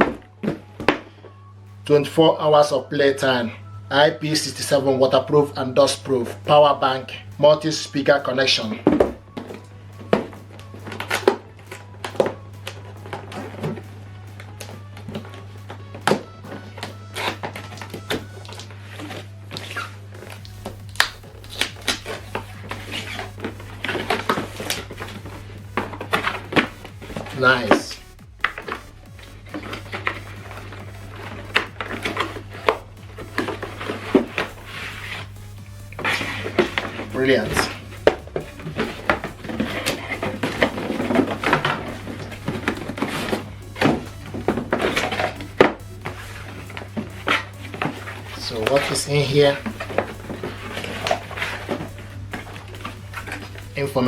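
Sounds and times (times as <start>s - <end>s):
steady low hum: 0.0s - 54.0s
packaging rustling and scraping: 5.2s - 54.0s.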